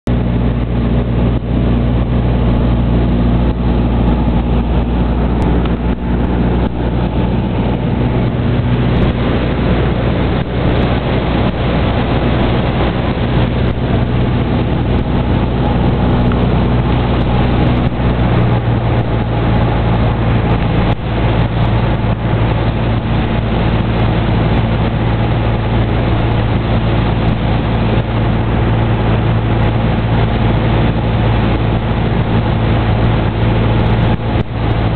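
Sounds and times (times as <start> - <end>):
airplane engine droning in cabin: 0.0 - 34.9.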